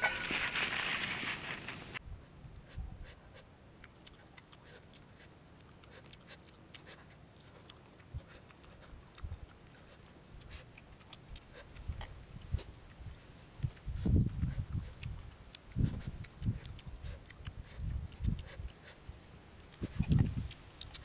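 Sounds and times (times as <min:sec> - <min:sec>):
chewing: 0:03.0 - 0:21.0.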